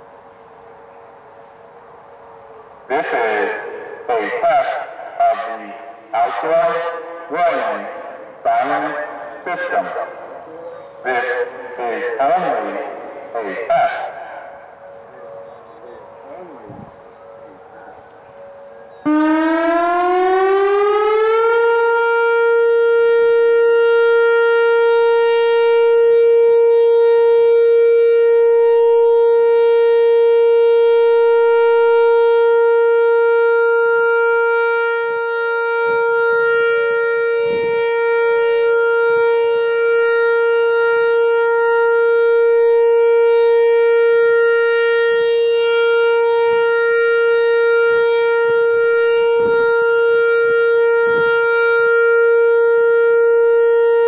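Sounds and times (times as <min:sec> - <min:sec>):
electronic siren steady tone: 0:00.0 - 0:54.0.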